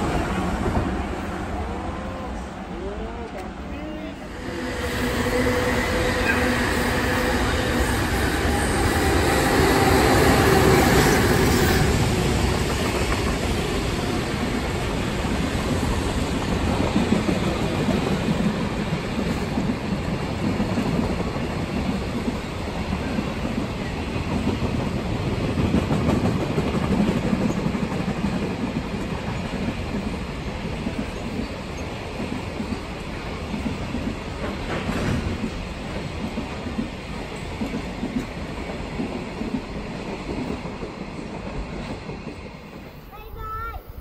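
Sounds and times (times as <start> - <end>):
freight train rumbling and clattering: 0.0 - 43.8
electric train passing: 0.0 - 44.0.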